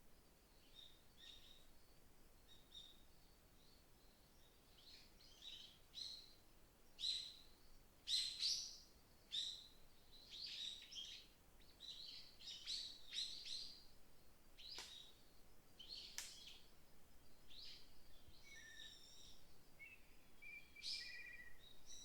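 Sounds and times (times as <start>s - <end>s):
faint wind hiss: 0.0s - 22.0s.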